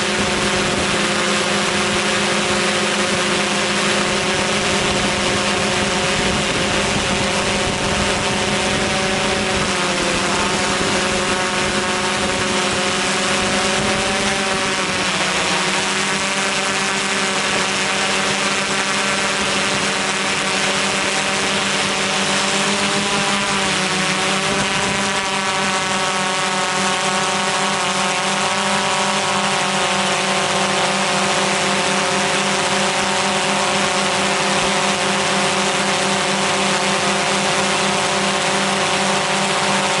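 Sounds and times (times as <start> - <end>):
drone motors and propellers: 0.0 - 40.0.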